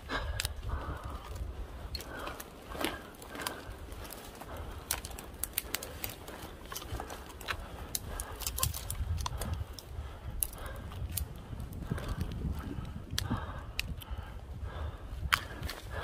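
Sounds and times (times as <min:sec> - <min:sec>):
low rumble of body movement: 0:00.0 - 0:16.0
twigs snapping and crackling: 0:00.0 - 0:16.0.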